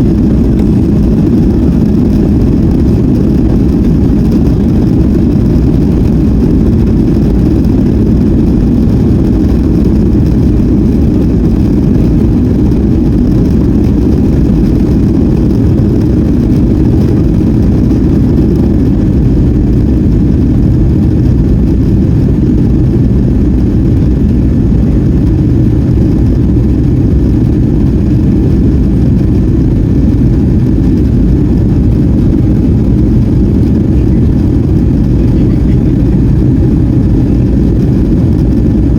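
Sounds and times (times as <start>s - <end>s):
deep rumble of jet engines: 0.0s - 38.9s.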